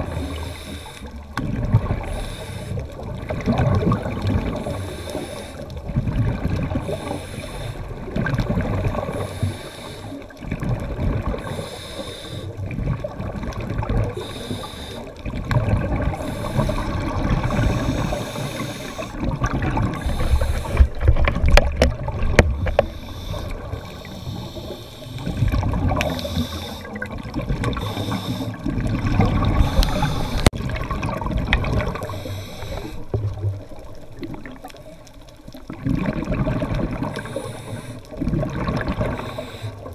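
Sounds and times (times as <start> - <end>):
water splashing past hulls: 0.0 - 39.9.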